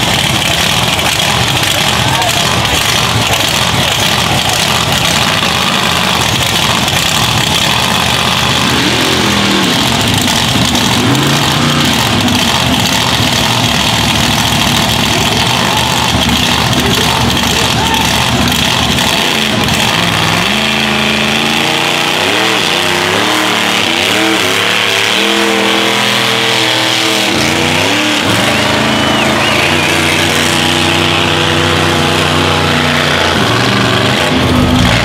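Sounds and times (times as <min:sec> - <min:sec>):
pickup truck engine revving: 0:00.0 - 0:35.0.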